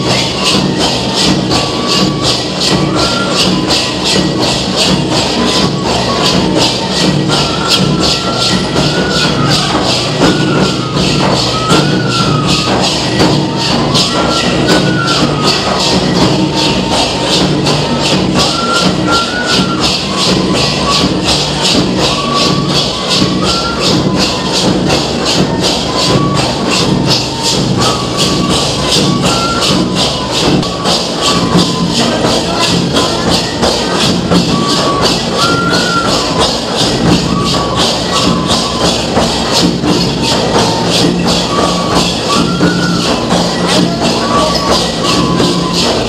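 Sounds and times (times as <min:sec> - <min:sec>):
frame drums with jingles: 0:00.0 - 0:46.0.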